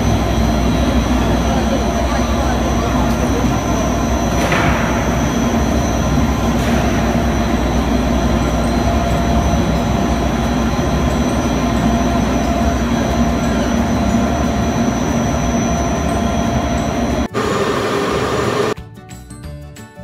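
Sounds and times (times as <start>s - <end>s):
machine drone with hum: 0.0s - 18.8s.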